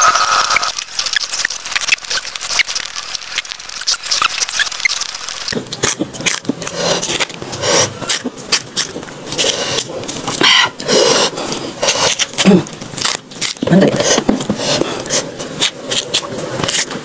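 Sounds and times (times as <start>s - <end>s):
person biting and chewing: 0.0s - 17.0s.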